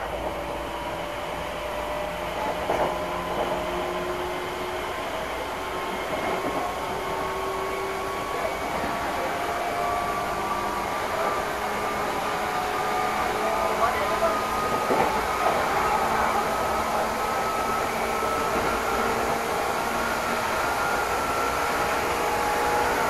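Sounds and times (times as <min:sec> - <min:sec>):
train running from inside: 0:00.0 - 0:23.0.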